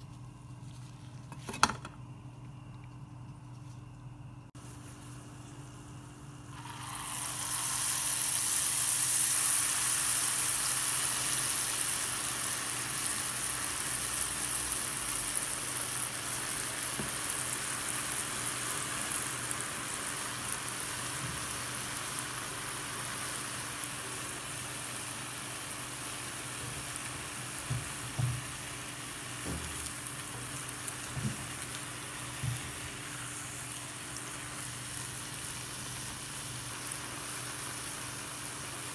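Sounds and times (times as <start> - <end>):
batter sizzling in oil: 4.6 - 38.9.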